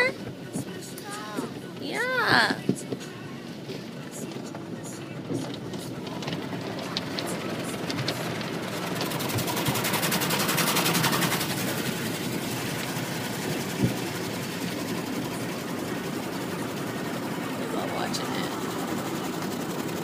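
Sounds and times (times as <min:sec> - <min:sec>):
car wash water spray rushing: 0:00.0 - 0:20.0.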